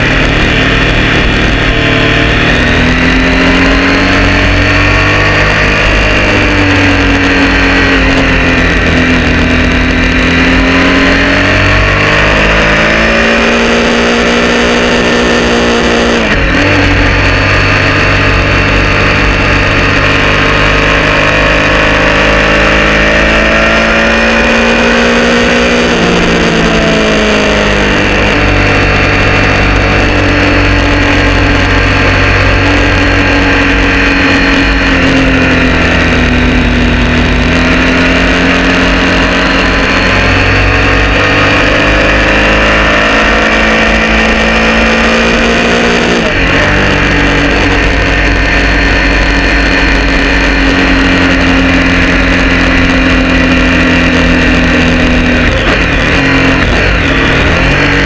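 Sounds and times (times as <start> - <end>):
motorcycle engine running hard: 0.0 - 58.0
wind noise: 0.0 - 58.0.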